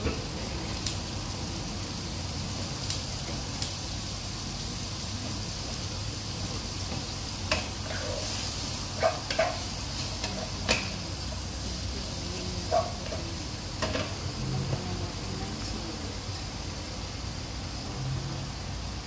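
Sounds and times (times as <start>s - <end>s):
frying sizzle: 0.0s - 19.0s.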